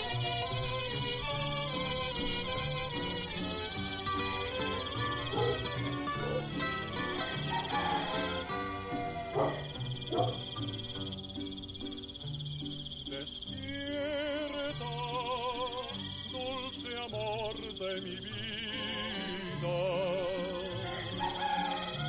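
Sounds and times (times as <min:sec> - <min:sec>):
crickets chirping: 0:00.0 - 0:22.0
serenade song instrumental: 0:00.0 - 0:22.0.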